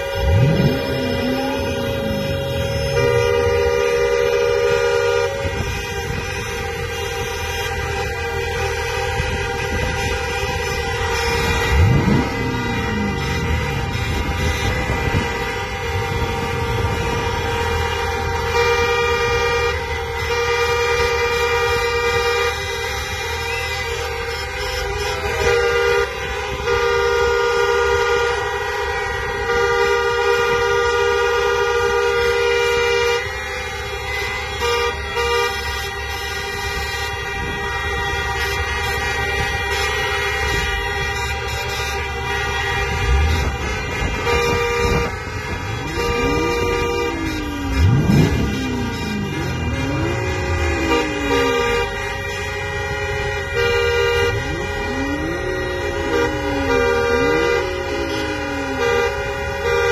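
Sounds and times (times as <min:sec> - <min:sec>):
car and truck horns honking: 0:00.0 - 0:59.9
low rumble of vehicles: 0:00.0 - 0:59.9.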